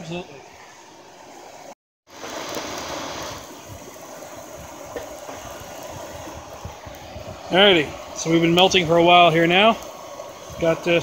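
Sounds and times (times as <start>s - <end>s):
hairdryer air rushing: 2.2s - 11.0s.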